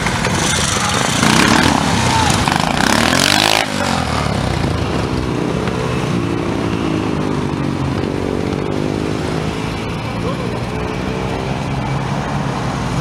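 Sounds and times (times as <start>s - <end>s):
motorcycle engine revving: 0.0s - 12.1s.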